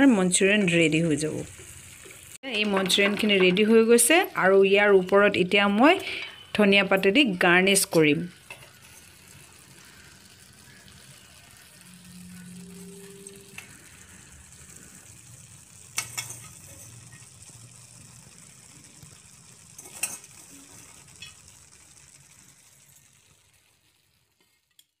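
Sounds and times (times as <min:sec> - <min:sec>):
gravy sizzling in a pan: 0:00.0 - 0:25.0.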